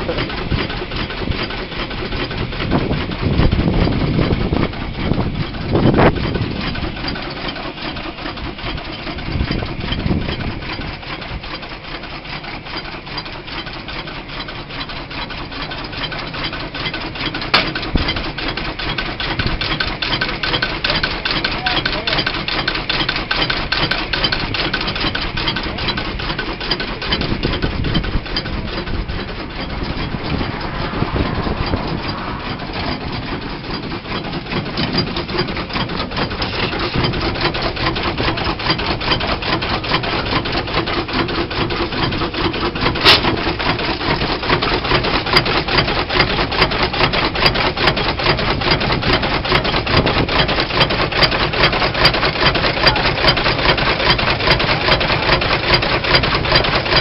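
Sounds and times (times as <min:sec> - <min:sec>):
steam traction engine running: 0:00.0 - 0:57.0.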